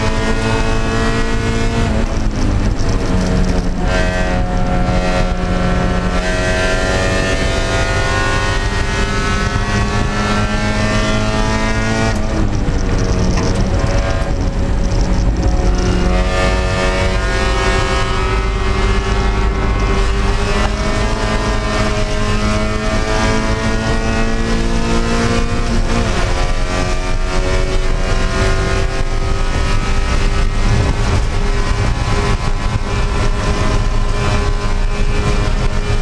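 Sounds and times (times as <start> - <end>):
car engine at full throttle: 0.0 - 36.0
road and wind noise: 0.0 - 36.0.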